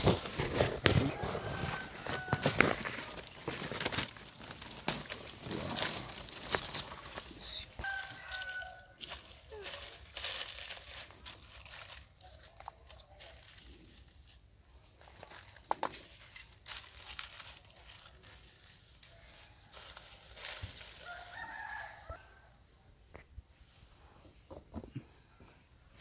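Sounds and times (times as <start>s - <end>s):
dry leaves and twigs crackling: 0.0s - 22.5s.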